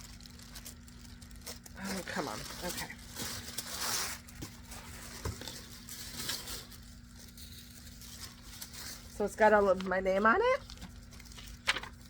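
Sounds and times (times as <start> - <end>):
paper packaging rustling: 0.0 - 12.0.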